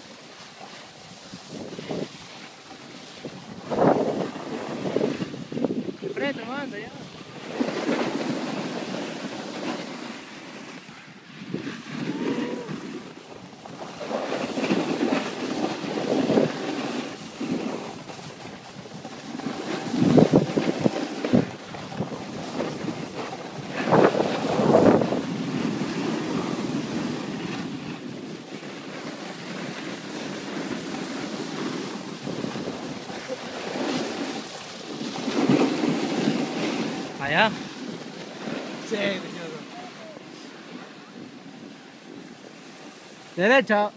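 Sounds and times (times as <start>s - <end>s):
snowboards scraping on snow: 0.0s - 43.9s
wind rushing over microphone: 1.0s - 43.9s.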